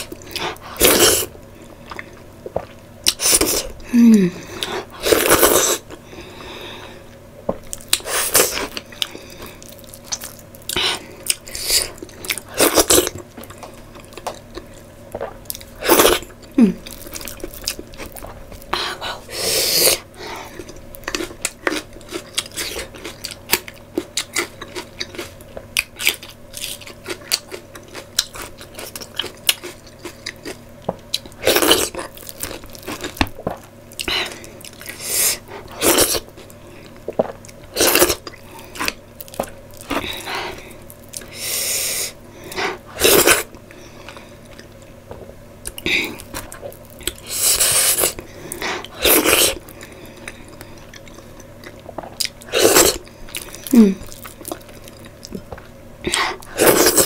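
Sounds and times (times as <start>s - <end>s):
person chewing food: 0.0s - 3.8s, 7.1s - 57.0s.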